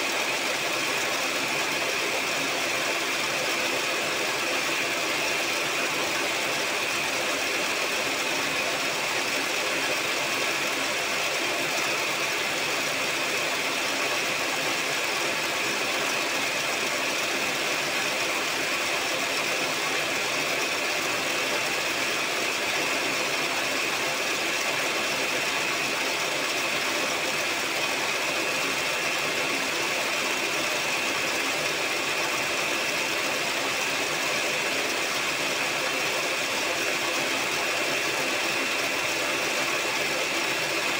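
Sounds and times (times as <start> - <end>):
electric hand mixer whirring: 0.0 - 40.9.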